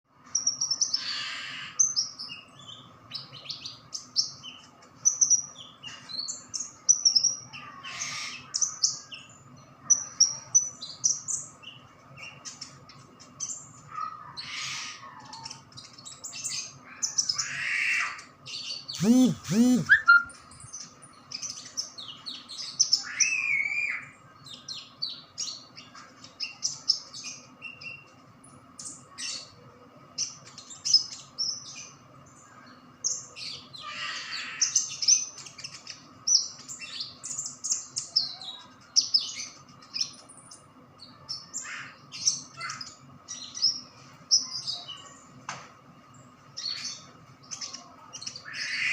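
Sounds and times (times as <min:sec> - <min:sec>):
songbird chirping and trilling: 0:00.2 - 0:48.9.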